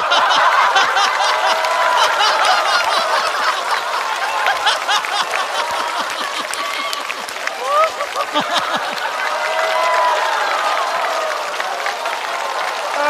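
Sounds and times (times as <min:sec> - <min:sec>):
applause: 0:00.0 - 0:13.0
audience laughing: 0:00.0 - 0:13.0.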